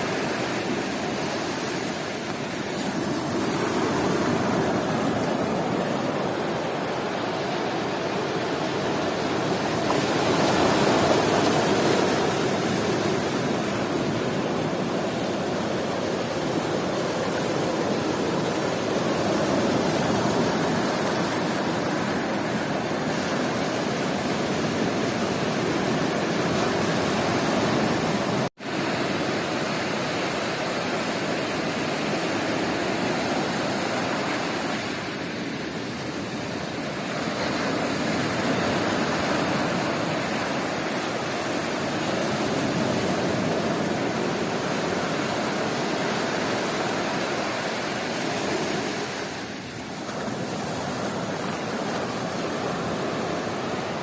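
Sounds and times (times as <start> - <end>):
sea surf washing onto beach: 0.0 - 54.0.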